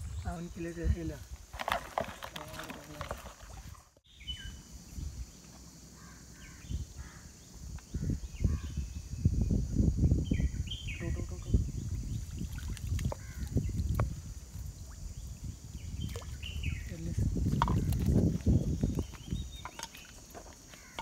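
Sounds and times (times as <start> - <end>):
birds chirping: 2.0 - 21.0.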